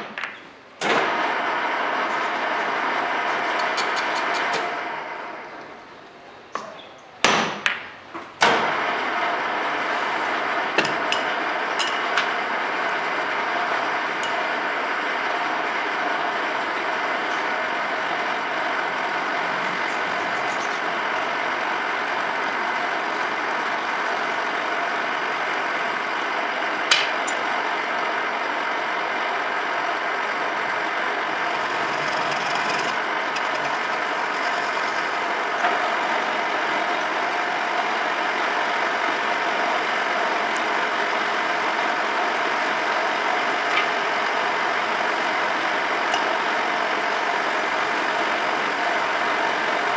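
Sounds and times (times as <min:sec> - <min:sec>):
metal lathe running: 0:00.0 - 0:06.0, 0:08.4 - 0:49.9.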